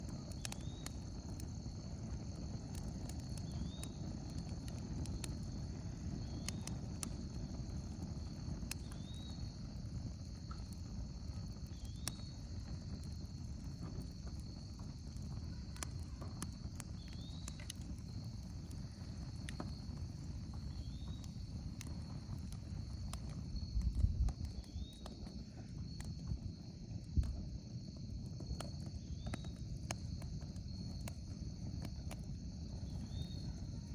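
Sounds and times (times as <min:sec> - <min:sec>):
crickets and insects trilling: 0:00.0 - 0:33.9
wood fire crackling: 0:00.0 - 0:33.9.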